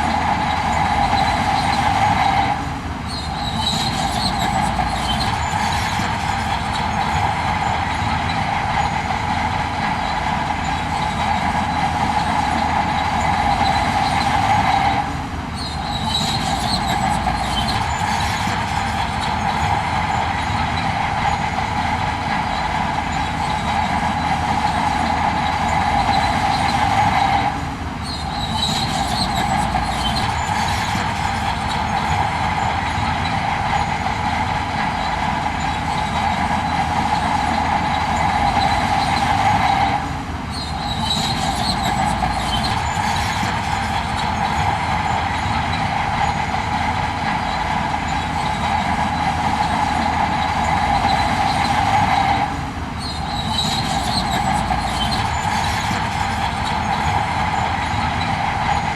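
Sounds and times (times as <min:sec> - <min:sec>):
heavy machinery diesel drone: 0:00.0 - 0:58.9
metallic squealing: 0:00.0 - 0:58.9.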